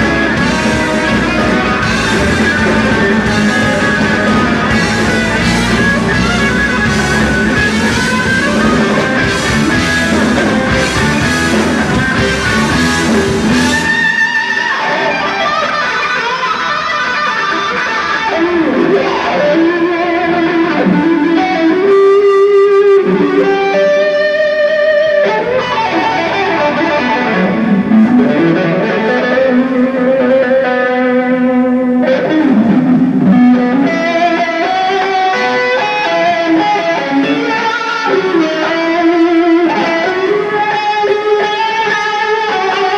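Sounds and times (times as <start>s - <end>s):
electric guitar bending notes: 0.0s - 42.9s
rock band playing: 0.0s - 42.9s.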